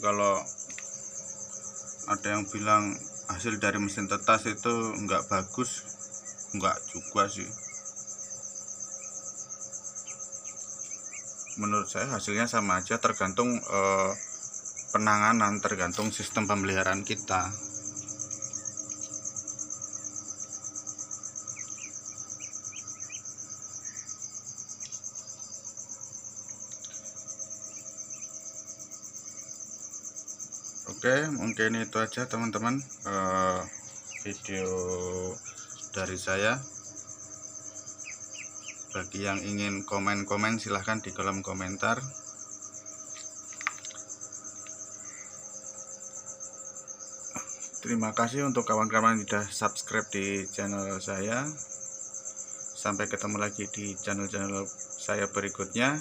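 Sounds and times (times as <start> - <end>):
cricket chirping: 0.0 - 56.0
faint steady hum: 0.0 - 56.0.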